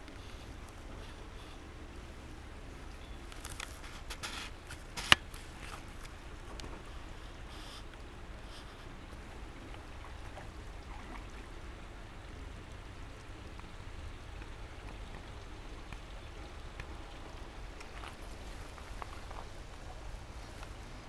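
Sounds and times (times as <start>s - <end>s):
small drip-like clicks: 0.0s - 21.0s
water trickling: 0.0s - 21.0s.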